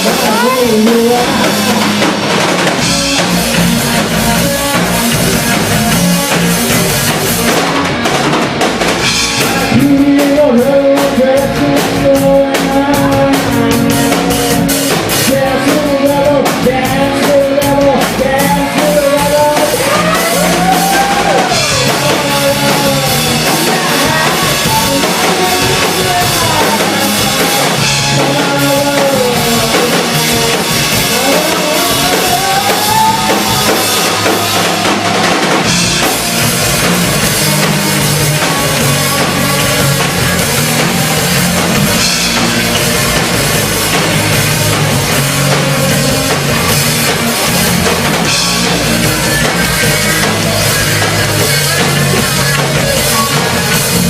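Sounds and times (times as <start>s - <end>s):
rock music with drums and guitar: 0.0s - 54.0s.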